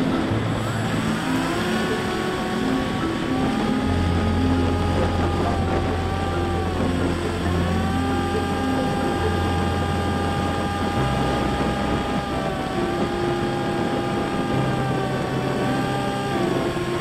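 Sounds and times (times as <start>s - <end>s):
model plane motor whining: 0.0s - 17.0s
wind rushing past microphone: 0.0s - 17.0s.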